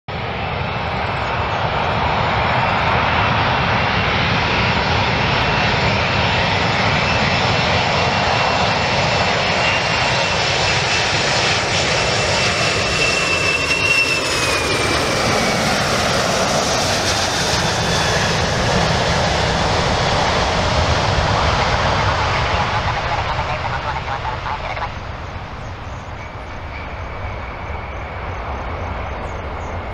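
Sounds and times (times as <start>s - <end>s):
jet airliner engines roaring: 0.1s - 29.9s.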